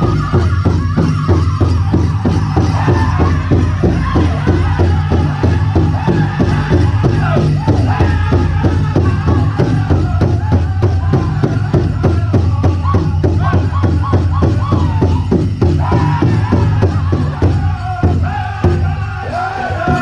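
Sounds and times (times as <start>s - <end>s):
large drum fast beat: 0.0s - 20.0s
voices singing together: 0.0s - 20.0s.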